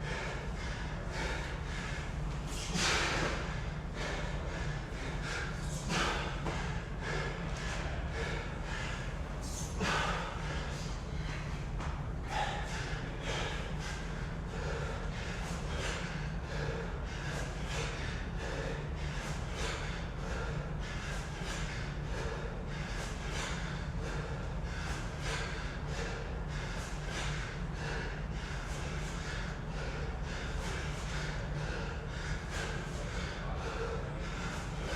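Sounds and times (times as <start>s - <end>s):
heavy rhythmic breathing: 0.0s - 34.9s
steady low hum: 0.0s - 34.9s.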